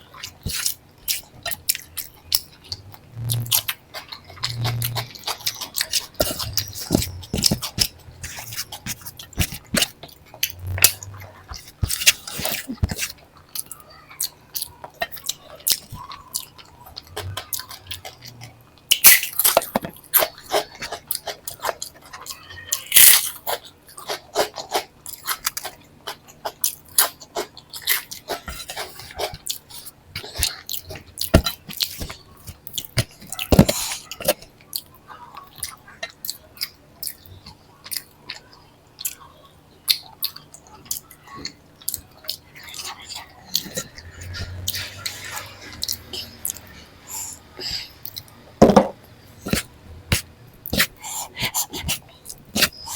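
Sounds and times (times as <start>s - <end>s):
chewing and mouth sounds: 0.0s - 48.4s, 49.3s - 52.9s.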